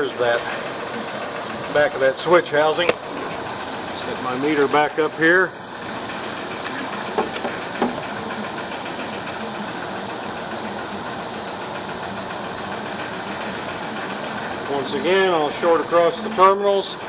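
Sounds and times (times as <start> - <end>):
steady machine noise: 0.0 - 17.0.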